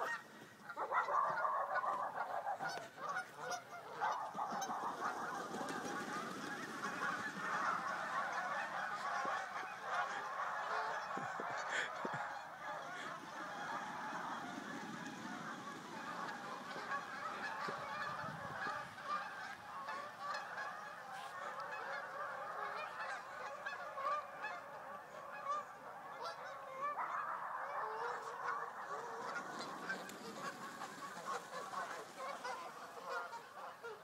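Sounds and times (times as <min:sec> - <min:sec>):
geese honking: 0:00.0 - 0:34.0.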